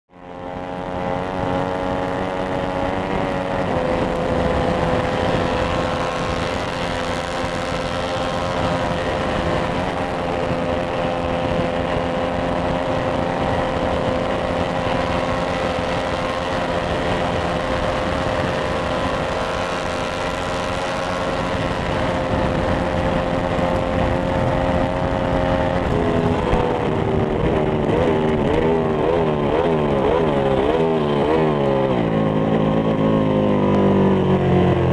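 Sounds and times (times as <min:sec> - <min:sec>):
motorcycle engine revving: 0:00.1 - 0:34.9
wind rush: 0:00.2 - 0:34.9.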